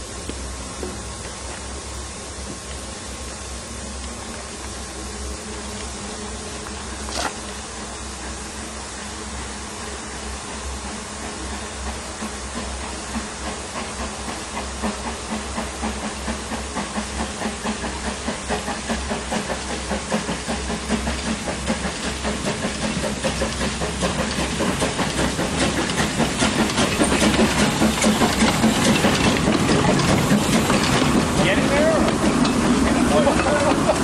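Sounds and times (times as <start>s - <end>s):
hissing steam: 0.0s - 34.0s
steam locomotive chuffing: 0.0s - 34.0s.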